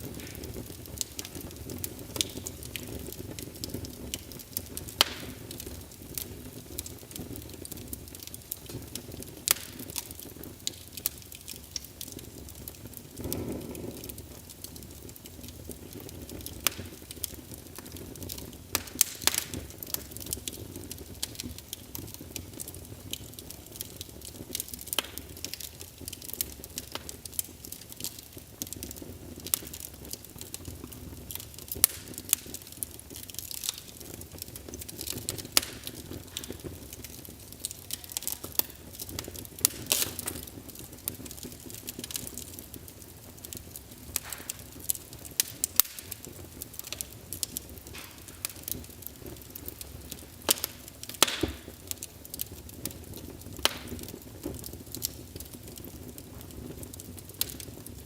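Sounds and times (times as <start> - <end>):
fire crackling and popping: 0.0 - 58.0
fire flames rumbling: 0.0 - 58.0.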